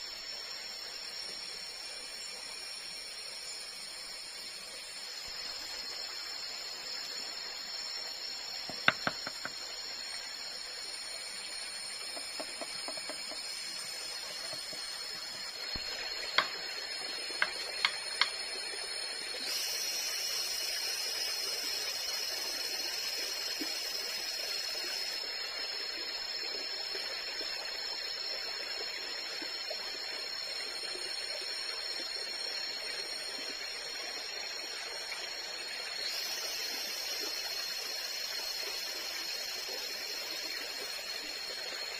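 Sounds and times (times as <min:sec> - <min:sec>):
high-pitched insect drone: 0:00.0 - 0:41.9
hiss: 0:00.0 - 0:41.9.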